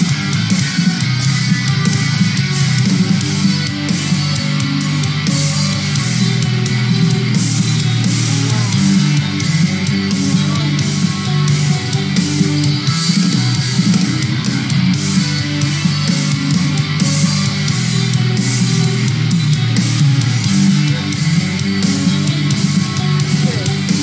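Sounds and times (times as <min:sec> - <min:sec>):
distorted electric guitars: 0:00.0 - 0:24.0
drums: 0:00.0 - 0:24.0.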